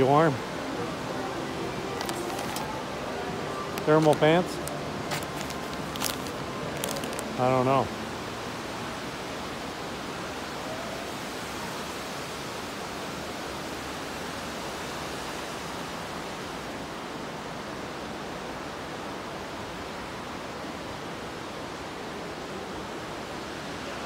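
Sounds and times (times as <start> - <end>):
rushing waterfall: 0.0 - 24.0.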